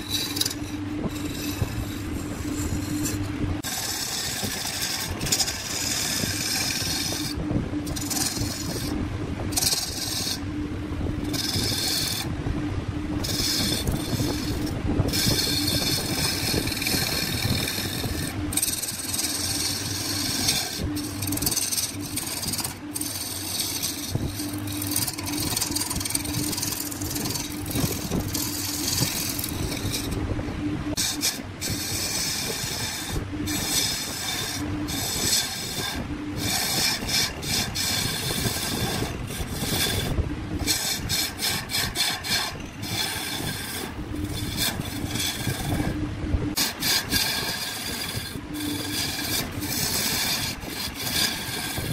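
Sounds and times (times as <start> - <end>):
turning tool cutting wood: 0.0 - 51.9
wood lathe humming: 0.0 - 51.9.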